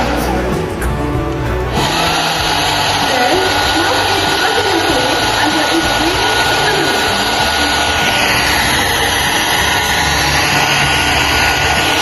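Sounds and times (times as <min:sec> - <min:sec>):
motor whine: 0:01.5 - 0:12.0
hair dryer blowing air: 0:01.6 - 0:12.0.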